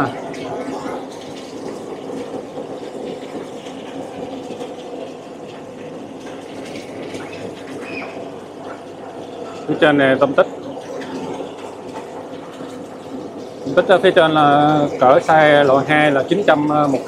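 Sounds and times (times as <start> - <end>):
water flowing and bubbling in tanks: 0.0 - 17.0.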